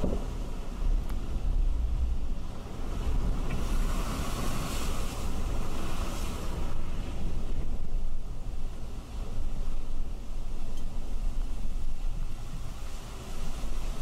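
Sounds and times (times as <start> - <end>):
rushing wind and rain: 0.0 - 14.0
wind buffeting microphone: 0.0 - 14.0.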